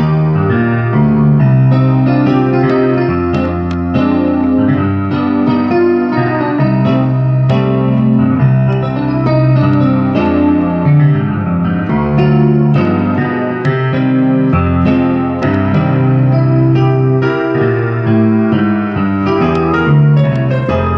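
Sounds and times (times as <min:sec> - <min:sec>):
keyboard chords: 0:00.0 - 0:20.9
low bass notes: 0:00.0 - 0:20.9.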